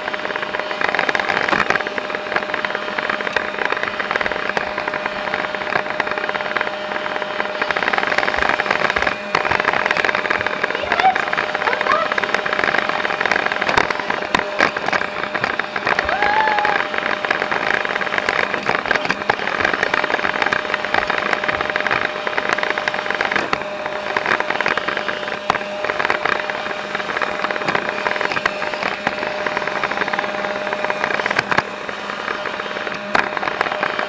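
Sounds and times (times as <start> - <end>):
robot vacuum motor hum: 0.0 - 34.0.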